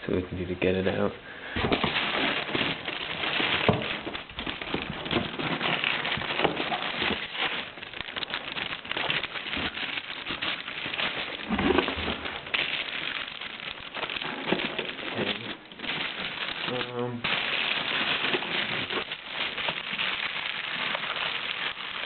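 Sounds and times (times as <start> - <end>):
cardboard and plastic rustling: 0.6 - 22.0.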